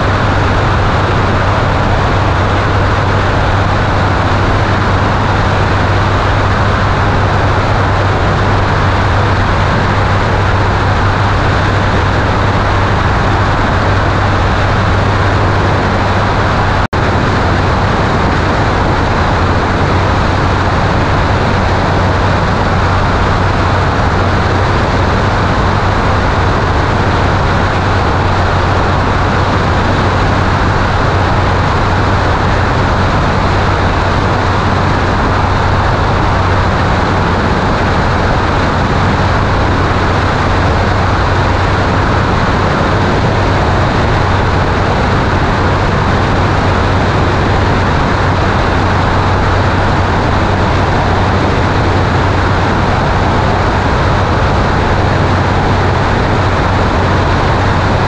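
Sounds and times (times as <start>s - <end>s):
aircraft engine and propeller drone: 0.0s - 58.0s
wind rush over microphone: 0.0s - 58.0s.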